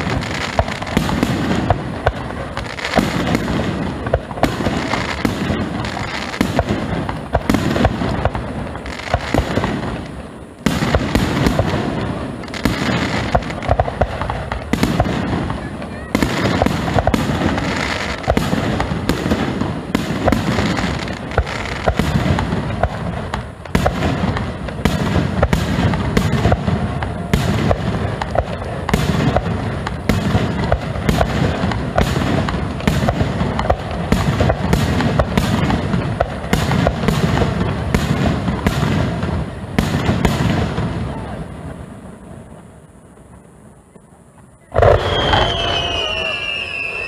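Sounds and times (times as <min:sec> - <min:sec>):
fireworks booming and crackling: 0:00.0 - 0:47.0.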